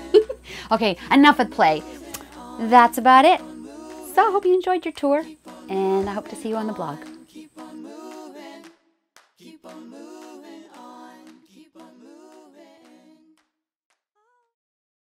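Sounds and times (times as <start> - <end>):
a cappella voices singing: 0.0 - 13.4.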